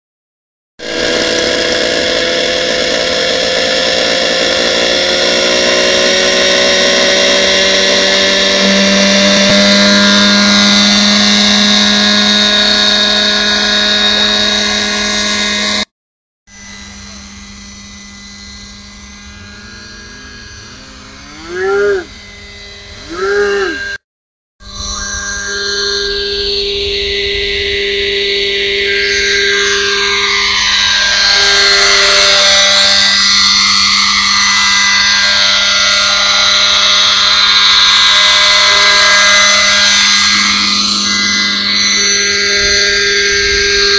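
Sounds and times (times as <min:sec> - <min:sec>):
model helicopter whine: 0:00.8 - 0:15.9, 0:16.5 - 0:24.0, 0:24.6 - 0:43.9.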